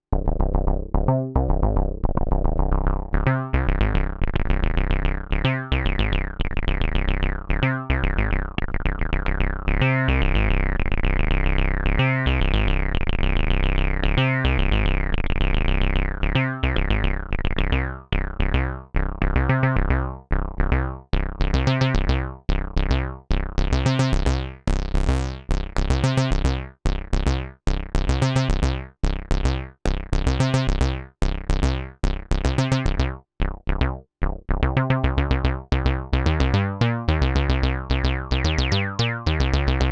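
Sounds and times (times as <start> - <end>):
synthesizer acid bass line: 0.2 - 39.9.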